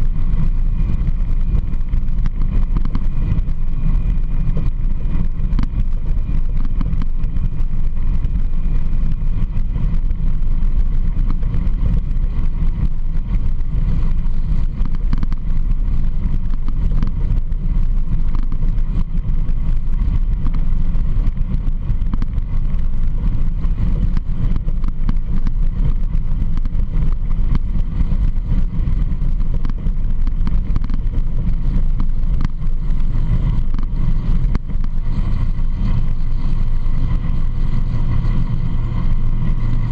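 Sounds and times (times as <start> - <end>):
vehicle engine rumbling on gravel: 0.0 - 39.9.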